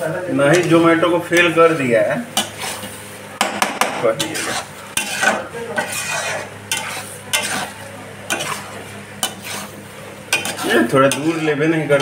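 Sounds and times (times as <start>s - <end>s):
sizzling in oil: 0.0s - 3.4s, 4.0s - 12.0s
metal spatula scraping pan: 0.4s - 3.2s, 4.0s - 12.0s.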